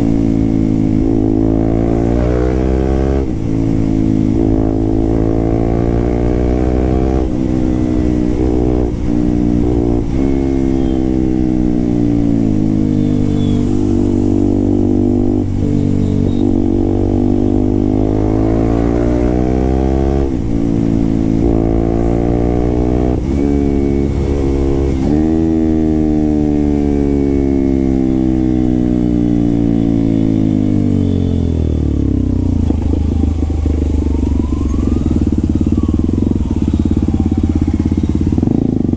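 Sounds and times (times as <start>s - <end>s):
motorcycle engine upshifting: 0.0s - 38.9s.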